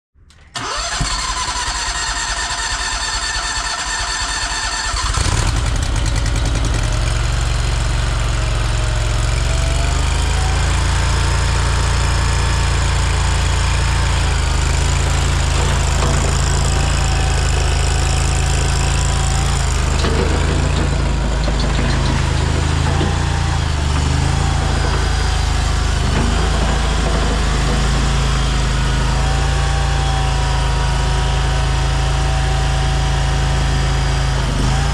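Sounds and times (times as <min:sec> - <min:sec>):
small engine cranking and running: 0:00.5 - 0:34.9.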